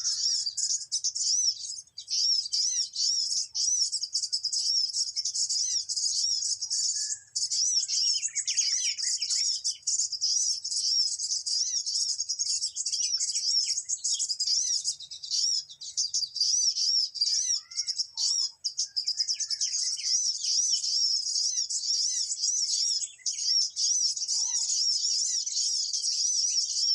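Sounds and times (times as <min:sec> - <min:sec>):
songbird chirping rapidly: 0:00.0 - 0:26.9.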